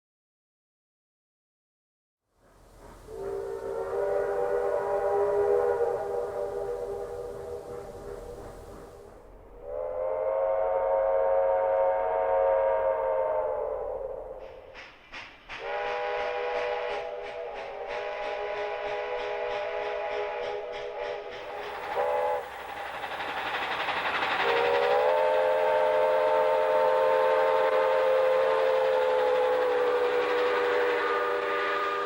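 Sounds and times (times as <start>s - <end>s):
steam locomotive whistle: 2.9s - 14.9s, 15.5s - 32.0s.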